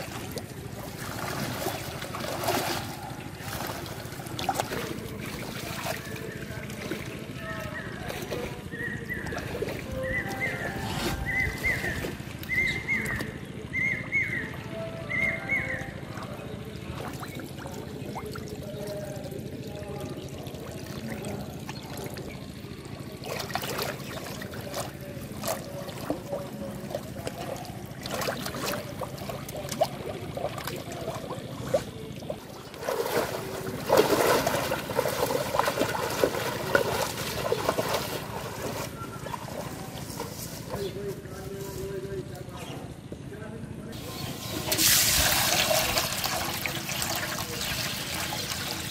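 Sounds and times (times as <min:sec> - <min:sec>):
water splashing and sloshing: 0:00.0 - 0:13.6, 0:15.8 - 0:41.6, 0:43.9 - 0:48.9.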